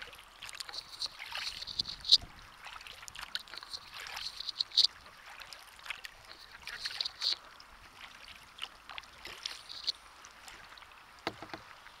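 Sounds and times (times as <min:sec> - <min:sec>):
paddle splashing in water: 0:00.0 - 0:12.0.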